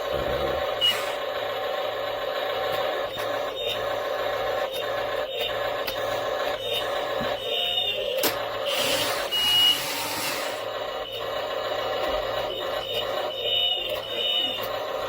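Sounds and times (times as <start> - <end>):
toy truck motor whining: 2.9 - 15.0.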